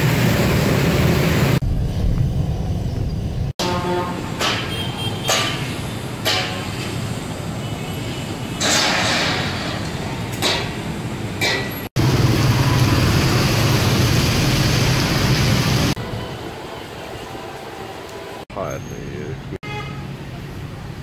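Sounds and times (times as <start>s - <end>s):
city hum: 0.0s - 21.0s
street traffic on wet road: 0.0s - 21.0s.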